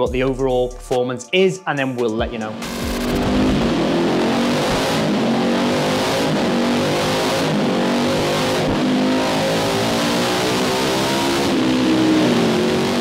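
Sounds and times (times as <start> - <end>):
motorcycle engine revving: 2.4 - 13.0.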